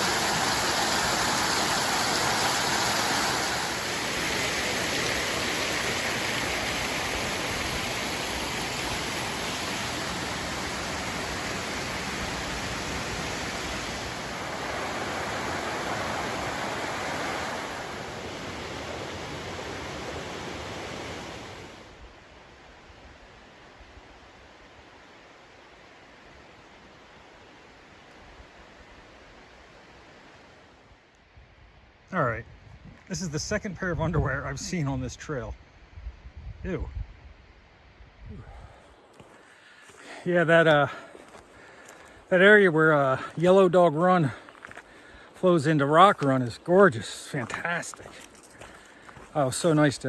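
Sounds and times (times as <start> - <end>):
waterfall and stream rushing: 0.0 - 31.0, 38.5 - 50.0.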